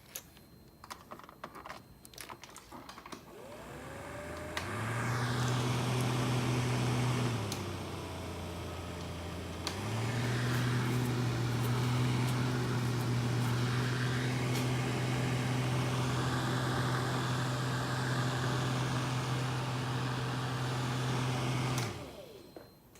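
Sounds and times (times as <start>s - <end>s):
blower fan humming with air rush: 3.3s - 22.6s.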